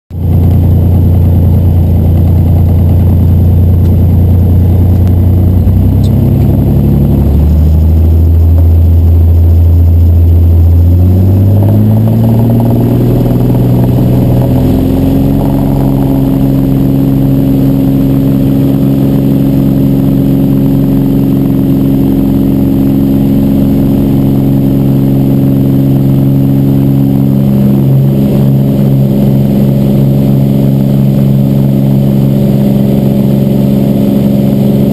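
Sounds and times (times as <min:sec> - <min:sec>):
plane engine and propeller: 0:00.1 - 0:34.9.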